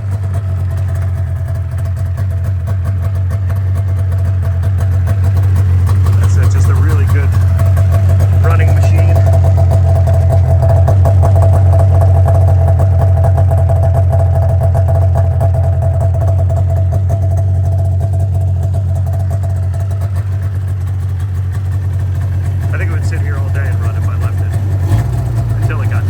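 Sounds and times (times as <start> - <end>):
higher engine tone: 0.0 - 26.0
snowmobile engine idling: 0.0 - 26.0.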